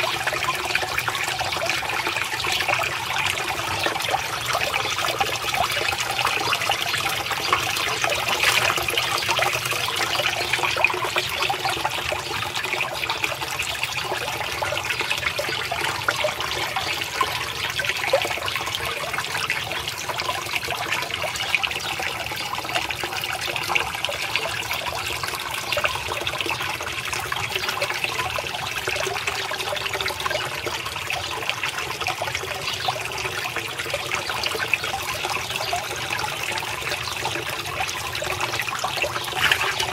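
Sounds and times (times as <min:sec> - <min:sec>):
fountain splashing into pond: 0:00.0 - 0:39.9.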